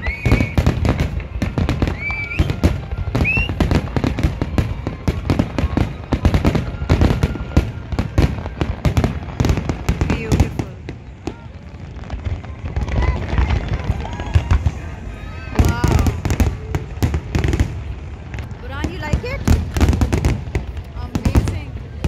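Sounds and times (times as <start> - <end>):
fireworks bursting: 0.0 - 22.0
rising firework whistles: 0.0 - 22.0.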